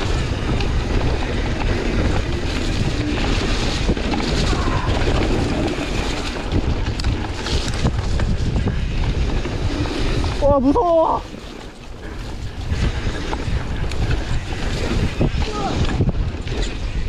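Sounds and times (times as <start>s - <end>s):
bike rattling over rough ground: 0.0s - 17.0s
bike tyre noise on dirt: 0.0s - 17.0s
wind buffeting microphone: 0.0s - 17.0s.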